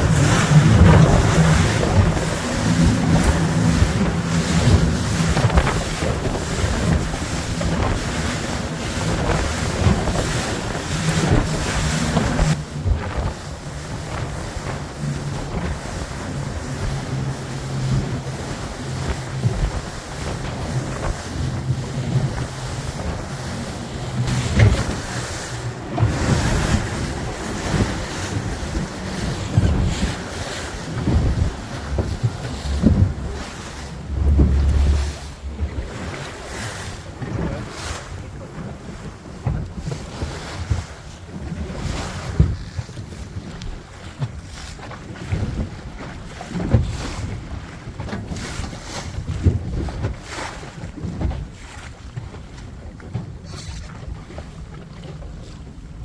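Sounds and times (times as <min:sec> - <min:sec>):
speedboat engine humming: 0:00.0 - 0:56.0
water rushing against hull: 0:00.0 - 0:56.0
wind buffeting microphone: 0:00.0 - 0:56.0.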